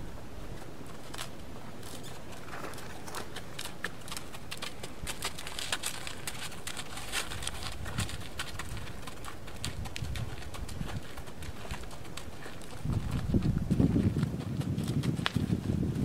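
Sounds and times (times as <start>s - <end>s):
horse hooves on dirt: 0.0s - 16.0s.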